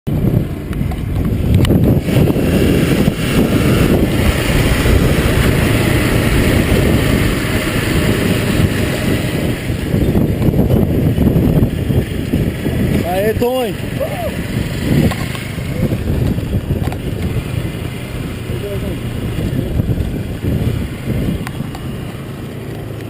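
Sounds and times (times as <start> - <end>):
low vehicle-like rumble: 0.1 - 23.0
wind buffeting microphone: 0.1 - 23.0.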